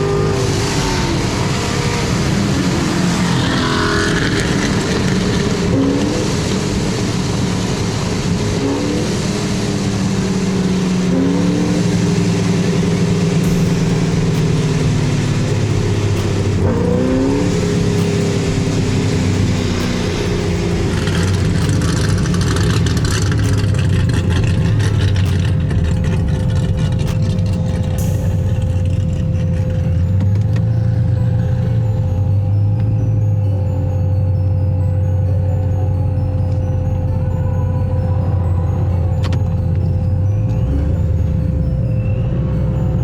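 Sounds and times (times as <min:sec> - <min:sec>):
car engine droning while driving: 0:00.0 - 0:43.0.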